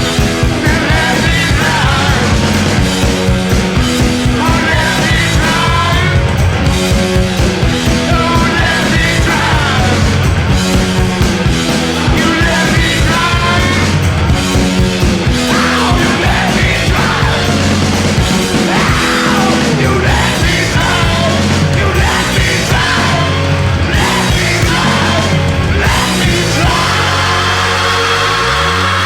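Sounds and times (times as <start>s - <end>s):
rock band playing: 0.0s - 29.0s
wailing lead guitar line: 0.0s - 29.0s.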